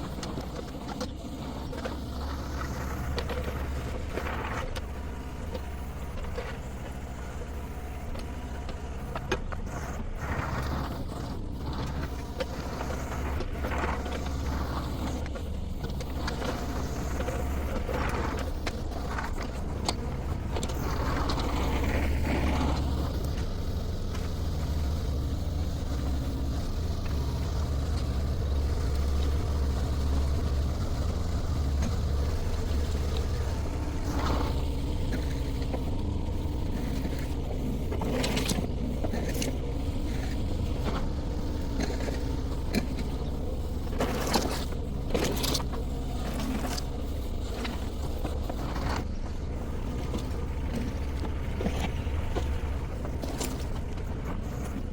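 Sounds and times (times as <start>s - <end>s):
excavator engine running: 0.0s - 54.9s.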